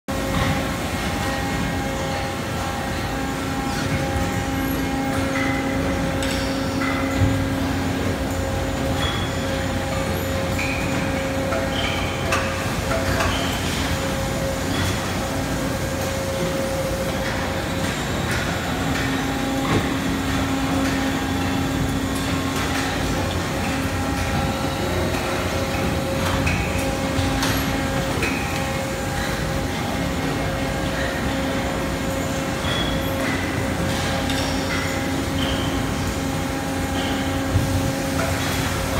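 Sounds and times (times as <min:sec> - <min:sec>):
industrial machinery hum: 0:00.0 - 0:38.9.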